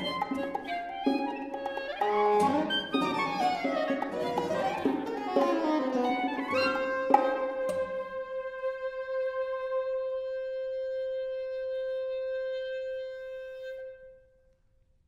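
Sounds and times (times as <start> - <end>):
clarinet holding long note: 0.0 - 14.4.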